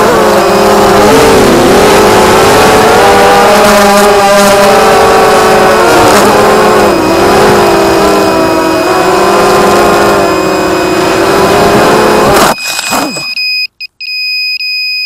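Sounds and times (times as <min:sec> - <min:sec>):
drone motors whining: 0:00.0 - 0:13.4.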